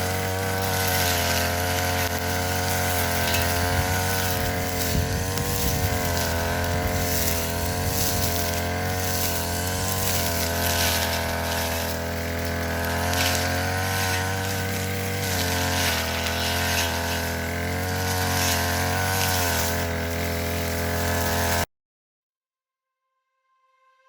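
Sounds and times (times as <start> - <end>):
brush cutter engine running: 0.0 - 21.7.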